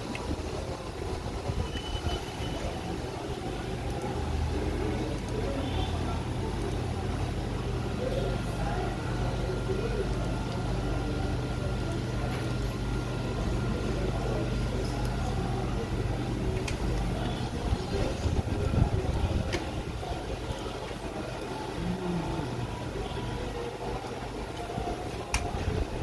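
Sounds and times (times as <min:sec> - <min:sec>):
indistinct voices: 0:00.0 - 0:26.0
low mechanical hum: 0:00.0 - 0:26.0
thin steady whine: 0:00.0 - 0:26.0.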